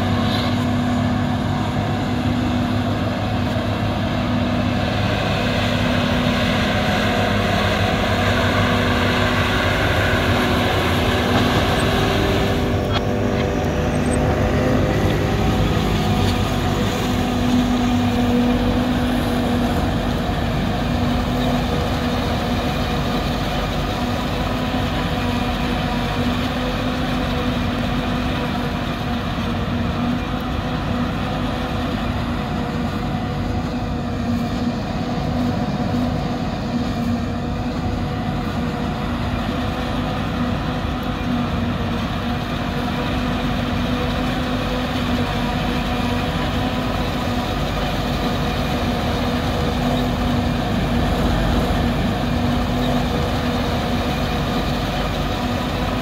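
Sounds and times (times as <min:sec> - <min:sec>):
forage harvester machine drone: 0:00.0 - 0:56.0.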